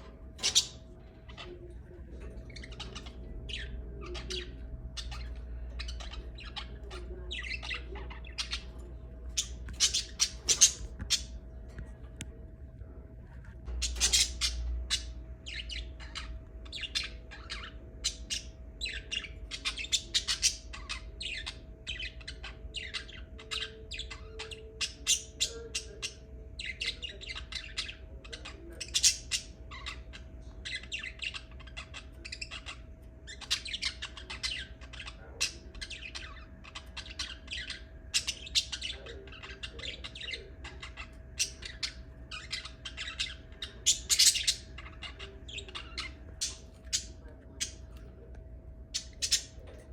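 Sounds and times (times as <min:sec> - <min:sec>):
lovebirds chattering: 0:00.0 - 0:49.9.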